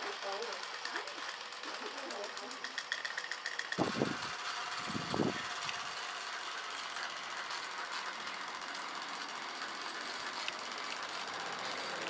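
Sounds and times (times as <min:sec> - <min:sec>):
model steam engine clatter and hiss: 0:00.0 - 0:12.0.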